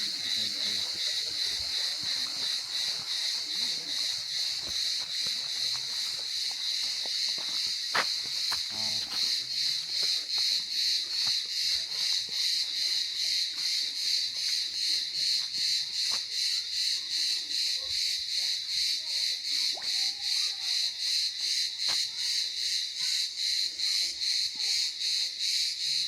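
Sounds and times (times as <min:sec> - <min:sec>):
cicadas chirring: 0:00.0 - 0:26.0.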